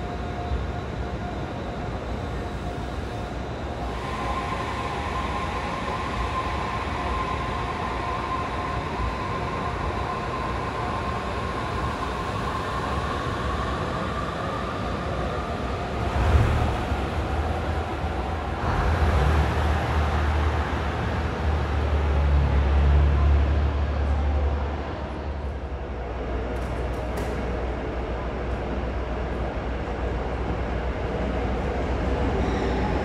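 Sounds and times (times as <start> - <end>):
electric train whine: 0.0 - 33.0
train rumble: 0.0 - 33.0.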